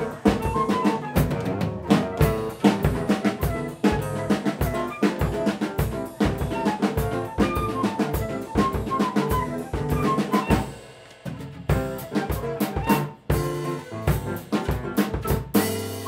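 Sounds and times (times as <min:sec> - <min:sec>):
clarinet melody: 0:00.0 - 0:10.8, 0:11.8 - 0:16.0
drum kit playing: 0:00.0 - 0:16.0.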